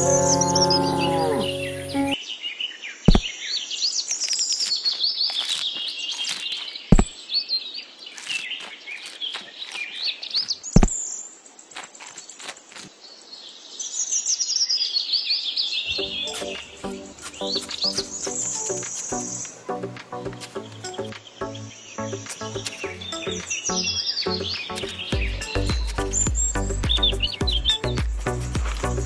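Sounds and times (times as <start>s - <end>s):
small birds chirping: 1.0s - 29.0s.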